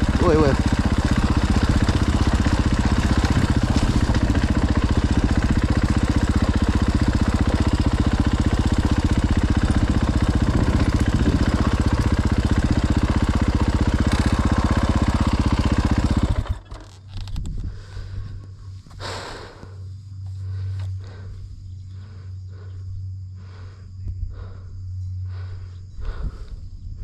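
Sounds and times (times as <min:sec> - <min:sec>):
dirt bike engine running: 0:00.0 - 0:26.5.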